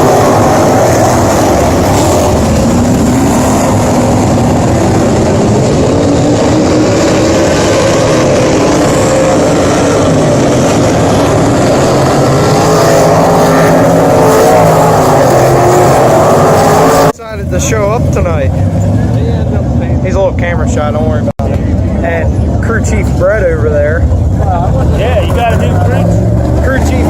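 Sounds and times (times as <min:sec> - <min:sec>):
race car engines revving: 0:00.0 - 0:27.0.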